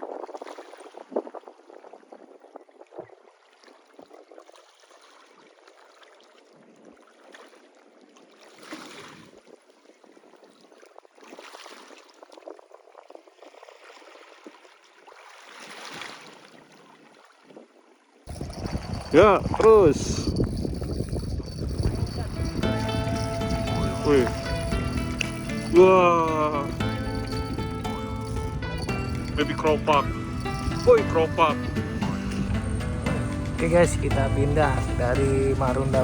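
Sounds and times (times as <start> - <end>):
water: 0.0 - 36.0
wind: 0.0 - 36.0.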